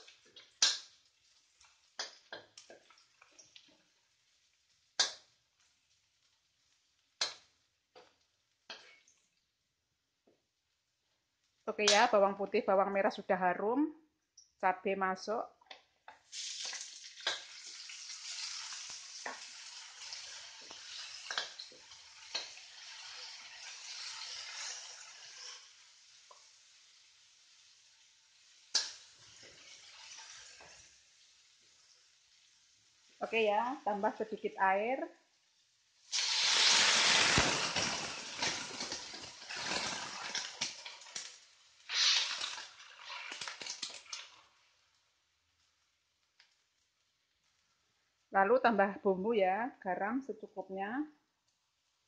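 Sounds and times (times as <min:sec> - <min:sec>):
food sizzling in hot oil: 0:00.0 - 0:09.8, 0:16.2 - 0:48.3.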